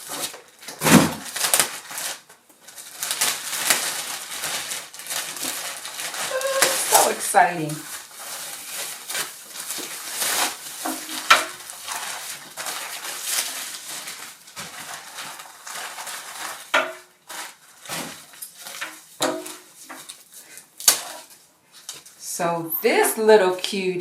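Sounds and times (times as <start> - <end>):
packaging rustling and crinkling: 0.0 - 22.2.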